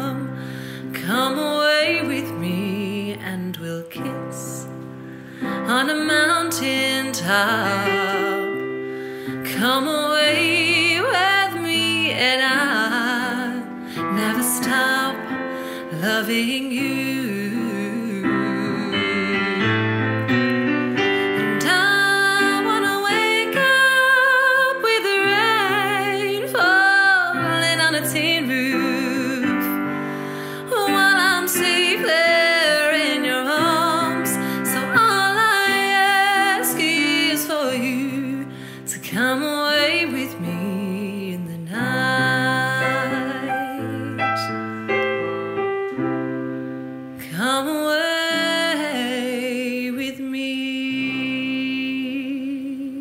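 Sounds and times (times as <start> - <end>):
woman singing with vibrato: 0.0 - 4.8, 5.4 - 20.2, 21.0 - 45.2, 47.2 - 53.0
piano accompaniment: 0.0 - 53.0.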